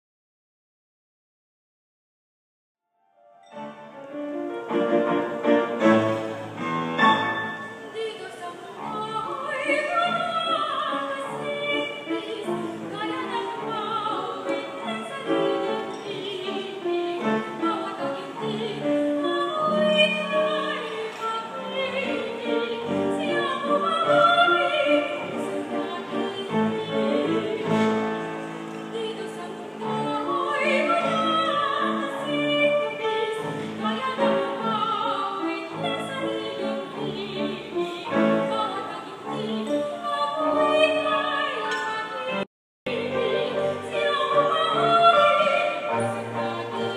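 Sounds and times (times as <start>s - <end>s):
piano accompaniment: 3.0s - 46.9s
woman singing operatically: 7.5s - 28.1s, 28.9s - 46.9s.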